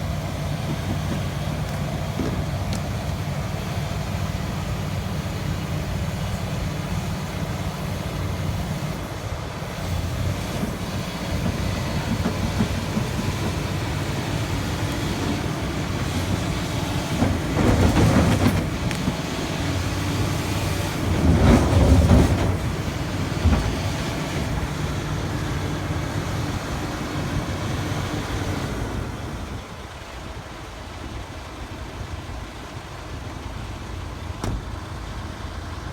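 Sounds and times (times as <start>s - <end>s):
dump truck engine running: 0.0s - 35.9s
excavator engine working: 0.0s - 35.9s.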